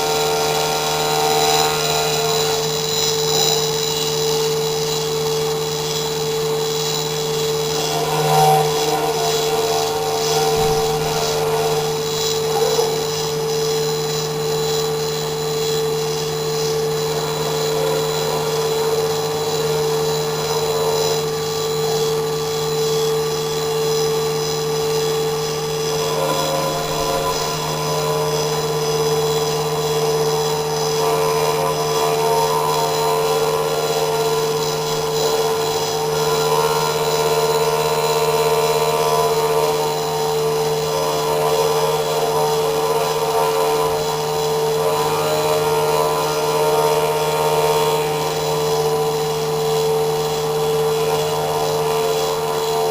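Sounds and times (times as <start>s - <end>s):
engraving machine whine: 0.0s - 52.9s.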